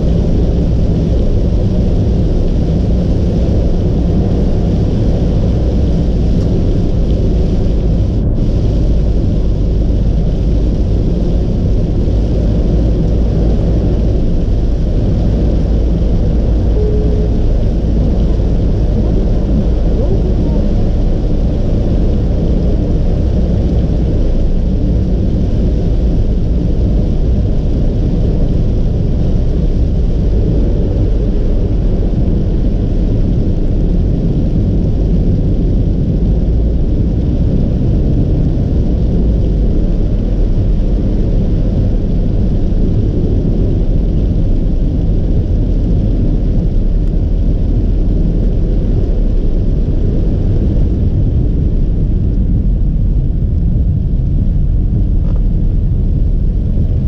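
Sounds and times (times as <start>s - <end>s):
car tyre and road noise: 0.0s - 57.0s.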